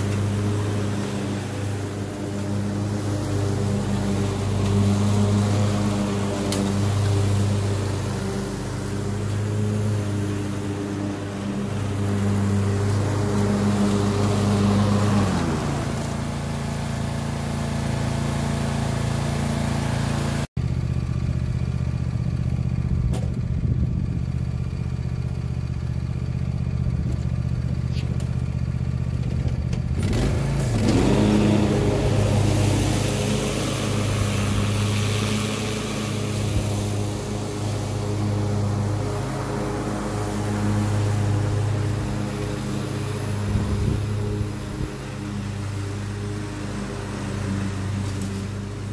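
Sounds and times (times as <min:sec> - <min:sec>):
lawn mower engine running: 0:00.0 - 0:48.9.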